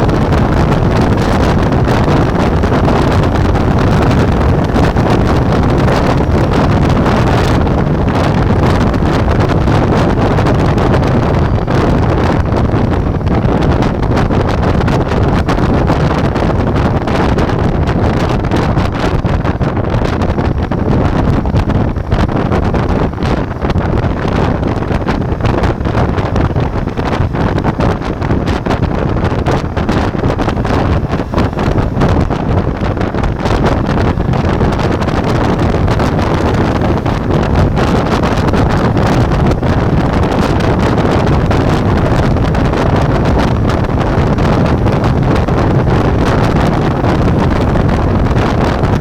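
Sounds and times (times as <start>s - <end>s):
motorcycle engine: 0.0s - 49.0s
road noise: 0.0s - 49.0s
wind buffeting microphone: 0.0s - 49.0s.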